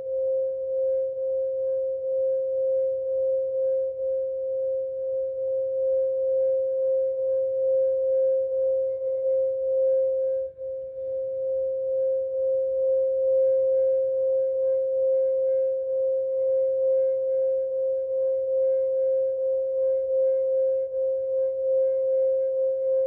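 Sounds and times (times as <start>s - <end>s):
crystal singing bowl tone: 0.0s - 23.0s.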